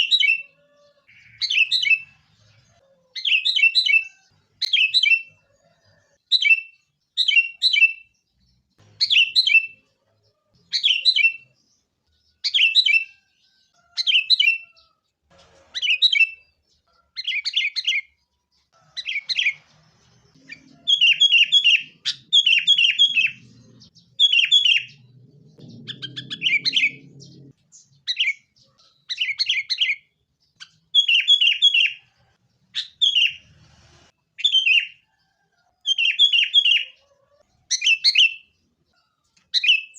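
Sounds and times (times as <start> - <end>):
bird sharp chirping calls: 0.0 - 14.9, 15.8 - 33.6, 35.8 - 39.9.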